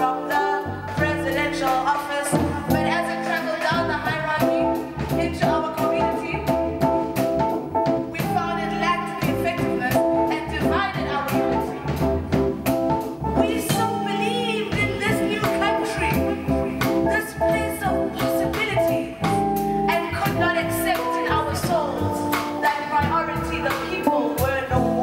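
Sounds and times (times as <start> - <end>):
woman singing: 0.0 - 7.0, 8.2 - 12.0, 13.4 - 25.0.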